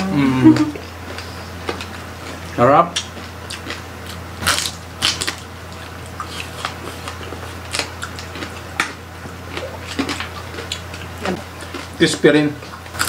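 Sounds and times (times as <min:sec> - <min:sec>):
low hum: 0:00.0 - 0:11.7
crunchy chewing of crispy skin: 0:00.8 - 0:13.0.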